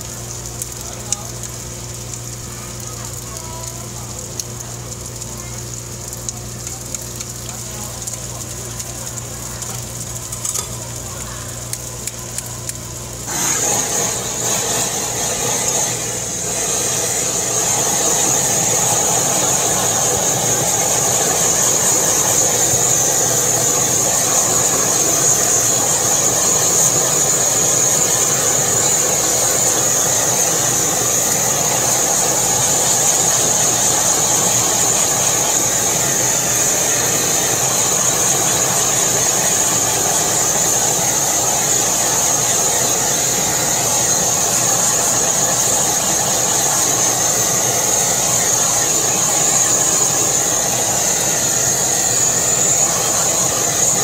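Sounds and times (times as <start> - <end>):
blowtorch hissing: 0.0 - 54.0
chicken sizzling on a griddle: 0.0 - 54.0.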